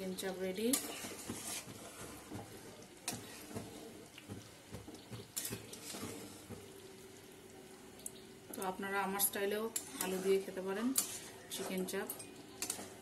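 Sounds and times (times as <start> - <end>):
spatula stirring meat in curry: 0.0 - 6.9, 9.2 - 13.0.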